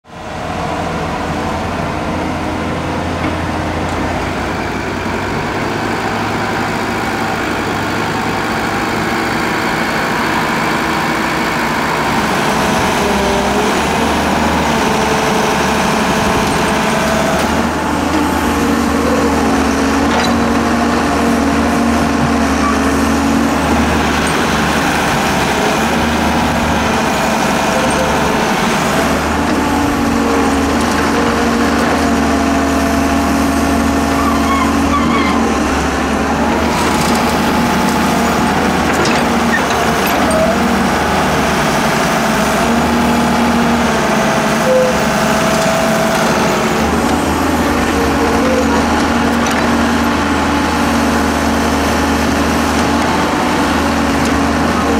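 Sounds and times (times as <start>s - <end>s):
excavator diesel engine running: 0.1s - 54.9s.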